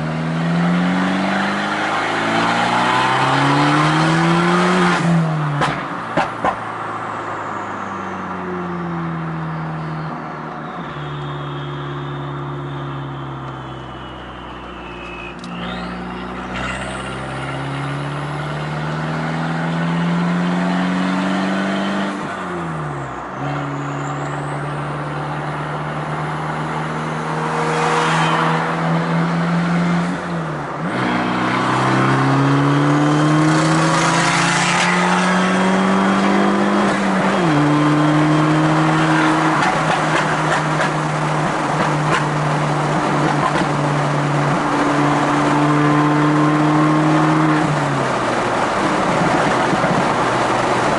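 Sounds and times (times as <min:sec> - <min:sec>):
car engine revving through gears: 0:00.0 - 0:06.6, 0:14.8 - 0:50.9.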